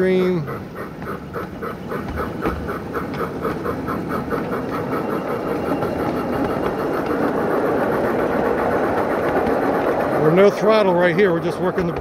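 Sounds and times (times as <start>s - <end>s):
model train rolling on track: 0.0s - 12.0s
rapid even wheel beat: 0.0s - 12.0s.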